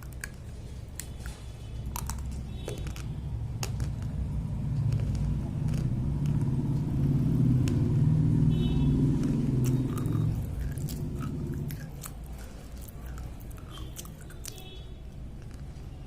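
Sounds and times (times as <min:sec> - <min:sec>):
pencil being chewed crunching: 0:00.0 - 0:15.9.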